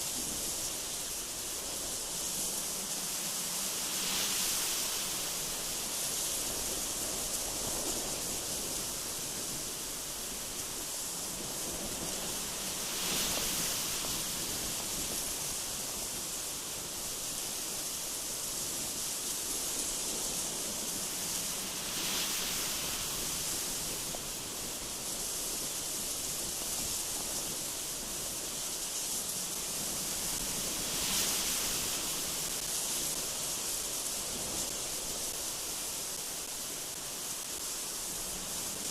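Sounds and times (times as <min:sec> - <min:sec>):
gusty wind through trees: 0:00.0 - 0:38.9.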